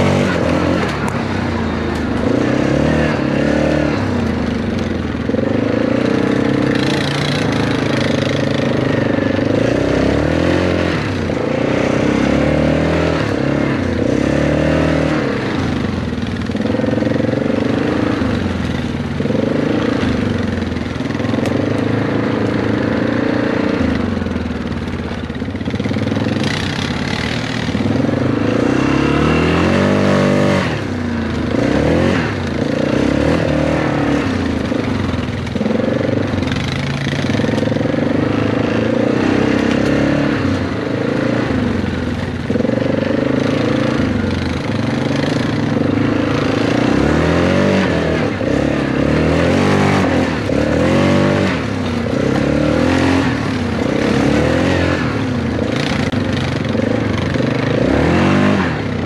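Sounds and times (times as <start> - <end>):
atv engine revving under load: 0.0 - 59.0.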